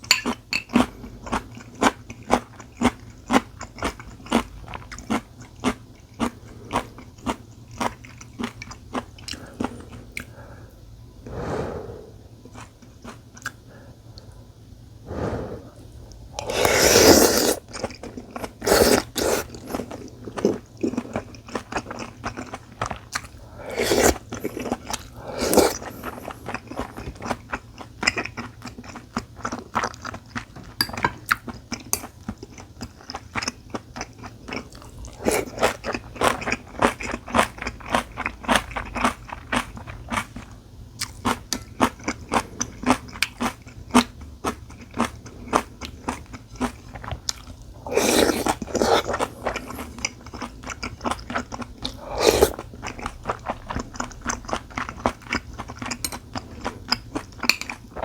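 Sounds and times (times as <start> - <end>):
person chewing food: 0.0 - 10.5, 11.3 - 14.4, 15.1 - 58.0.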